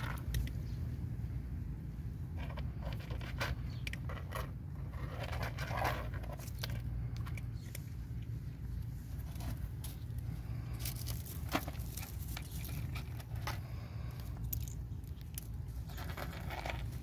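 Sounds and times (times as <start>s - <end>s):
cats crunching dry kibble: 0.0s - 1.1s, 2.1s - 17.0s.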